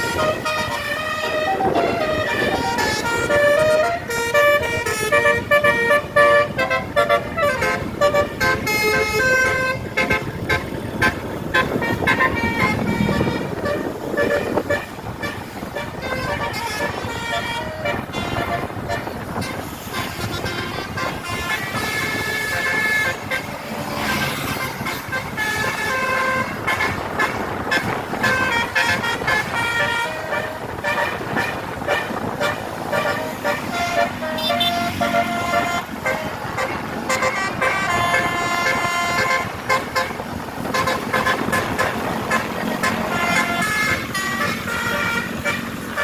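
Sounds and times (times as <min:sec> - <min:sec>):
multi-tone bus horn tune: 0:00.0 - 0:46.0
outdoor road noise: 0:00.0 - 0:46.0.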